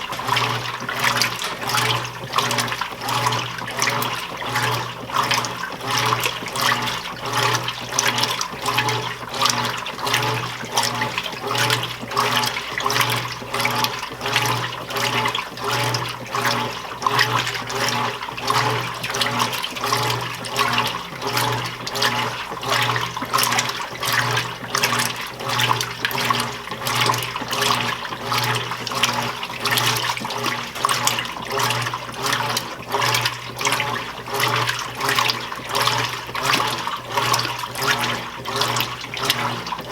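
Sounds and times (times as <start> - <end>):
washing machine motor humming: 0.0 - 39.9
water and clothes sloshing: 0.0 - 39.9.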